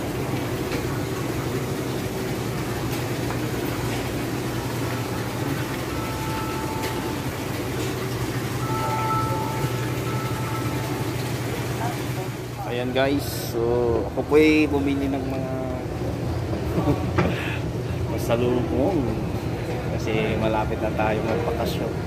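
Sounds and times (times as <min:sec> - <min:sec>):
refrigeration machine hum: 0:00.0 - 0:22.0.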